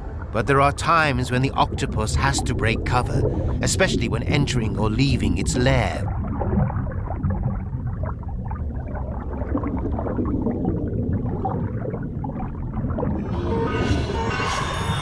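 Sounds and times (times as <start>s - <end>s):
underwater bubbling and crackling: 0.0s - 14.3s
underwater low rumble: 0.0s - 15.0s.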